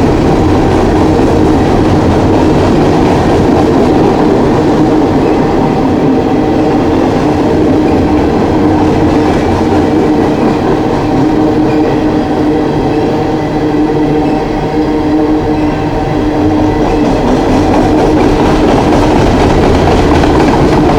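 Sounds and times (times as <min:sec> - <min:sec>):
train wheels rumbling on rail: 0:00.0 - 0:20.9.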